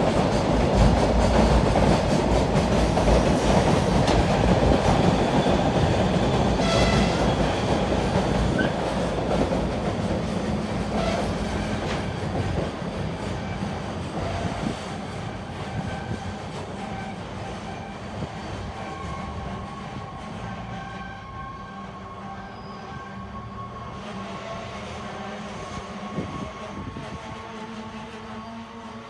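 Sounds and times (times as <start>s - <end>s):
train passing: 0.0s - 29.0s.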